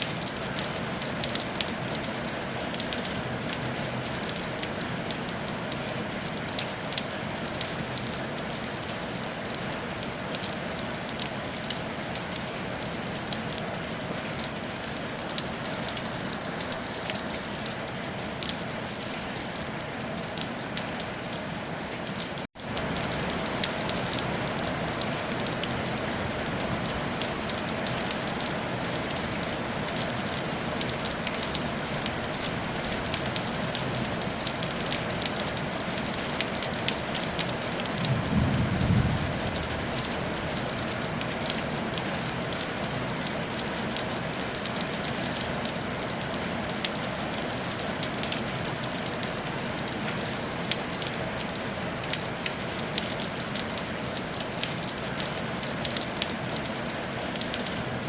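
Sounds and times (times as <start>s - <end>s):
rain on a tile roof: 0.0s - 58.0s.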